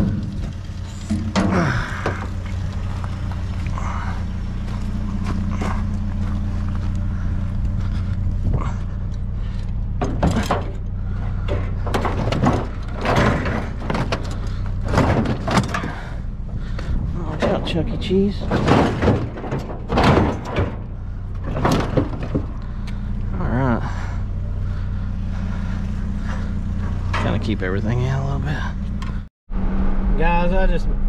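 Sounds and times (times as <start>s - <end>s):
knocks and rattles: 0.0s - 23.3s, 24.2s - 28.1s
vehicle engine idling: 0.0s - 31.0s.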